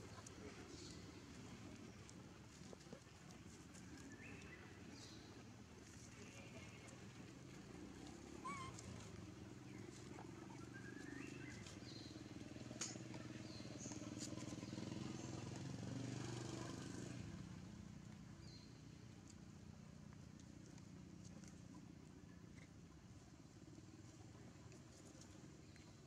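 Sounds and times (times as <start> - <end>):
faint motor engine droning: 0.0 - 26.0.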